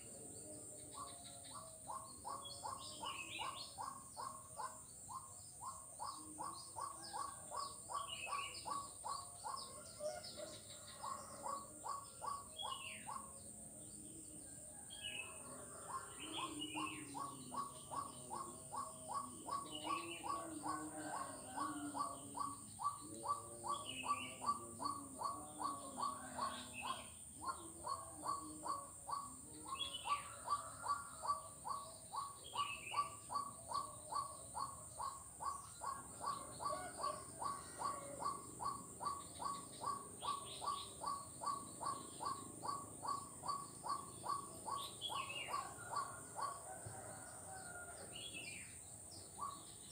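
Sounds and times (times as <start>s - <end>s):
frog calling: 0.0s - 49.9s.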